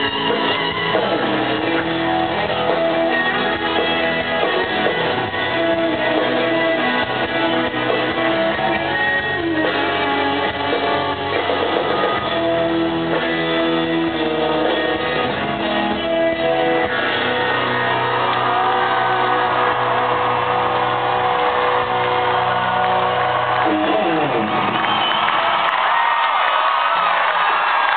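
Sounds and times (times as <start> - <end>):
rock band playing: 0.0 - 25.9.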